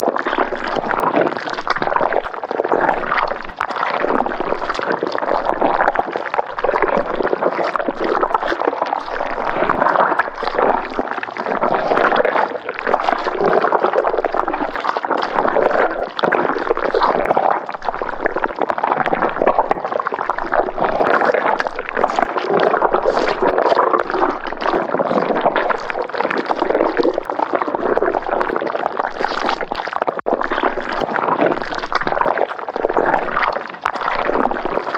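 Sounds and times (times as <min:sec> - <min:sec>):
thick liquid bubbling: 0:00.0 - 0:34.9.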